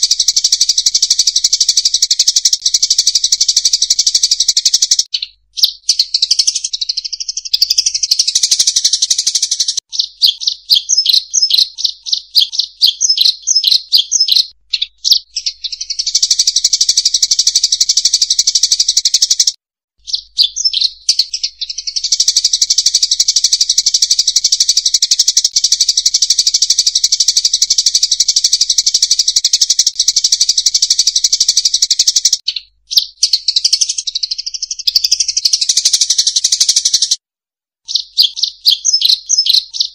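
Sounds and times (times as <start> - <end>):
small birds chattering: 0.0 - 37.2, 37.8 - 39.9.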